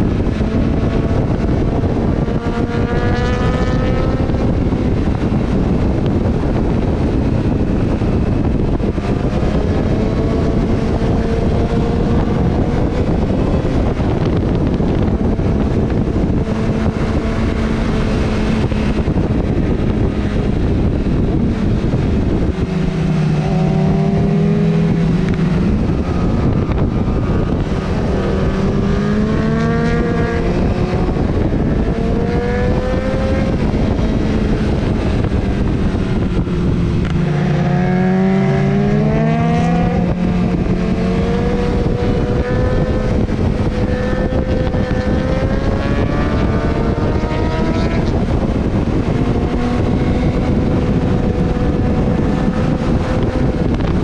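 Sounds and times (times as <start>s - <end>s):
motorcycle engine accelerating: 0.0s - 54.0s
wind rushing on microphone: 0.0s - 54.0s.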